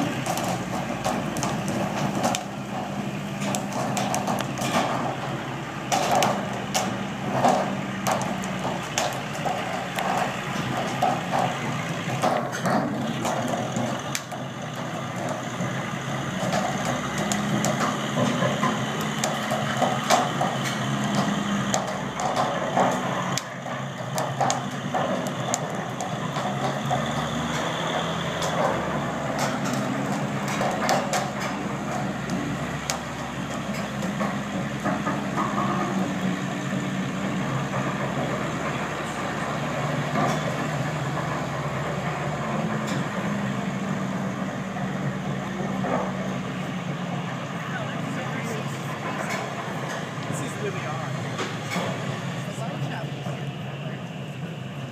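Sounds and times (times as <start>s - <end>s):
sharp clicks and creaks: 0.0s - 43.5s, 47.9s - 52.2s
forklift engine running: 0.0s - 54.9s.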